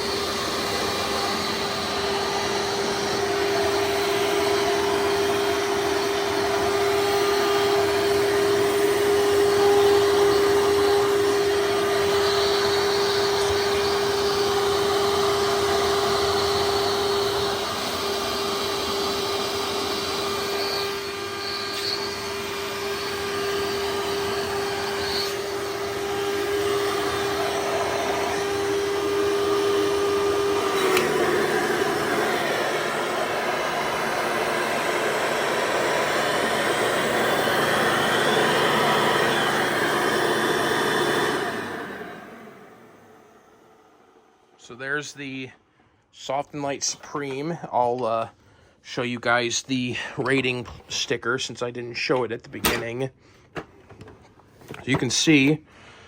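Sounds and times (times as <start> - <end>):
vacuum cleaner motor whine: 0.0 - 45.1.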